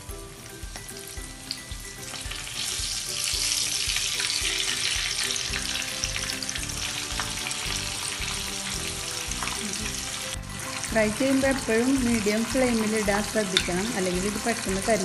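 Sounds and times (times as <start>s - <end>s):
prawns sizzling in hot oil: 0.0s - 15.0s.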